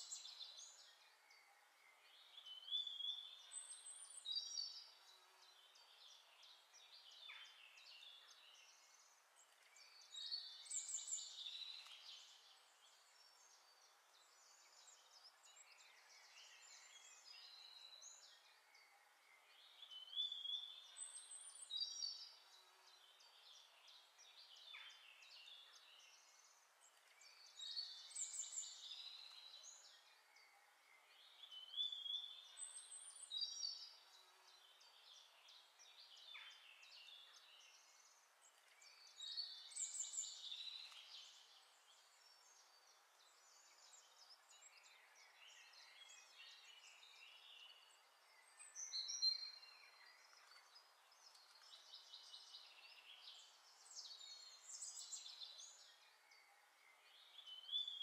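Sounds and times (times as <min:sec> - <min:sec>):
faint birdsong chirps and trills: 0:00.0 - 0:58.0.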